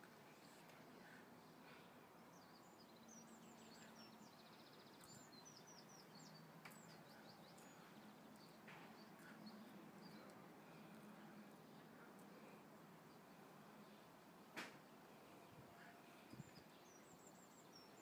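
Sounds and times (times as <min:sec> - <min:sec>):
faint outdoor background hiss: 0:00.0 - 0:18.0
bird chirping: 0:00.4 - 0:14.2, 0:14.8 - 0:18.0.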